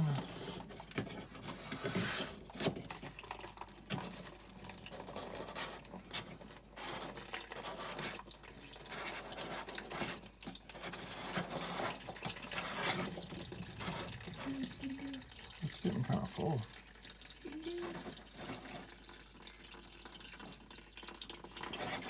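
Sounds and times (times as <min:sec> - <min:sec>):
water pouring into a container: 0:01.4 - 0:22.0.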